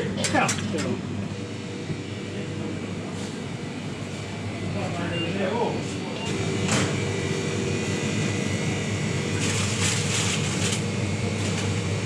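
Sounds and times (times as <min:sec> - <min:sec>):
refrigerated display cases humming: 0:00.0 - 0:12.0.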